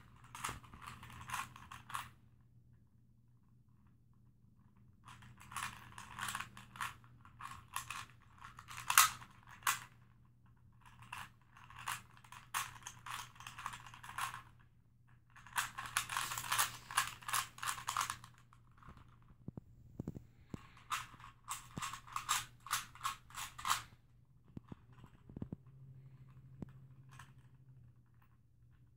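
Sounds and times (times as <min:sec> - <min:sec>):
puzzle cube clicking and rattling: 0:00.0 - 0:02.2, 0:05.0 - 0:19.4, 0:20.0 - 0:28.3.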